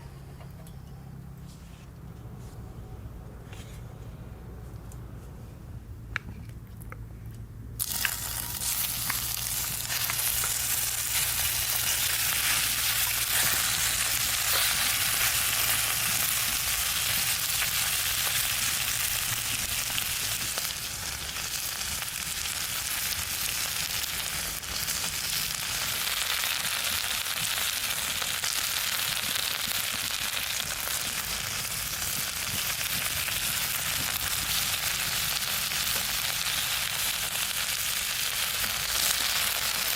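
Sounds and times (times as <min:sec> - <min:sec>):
meat sizzling in a pan: 0:07.8 - 0:39.9.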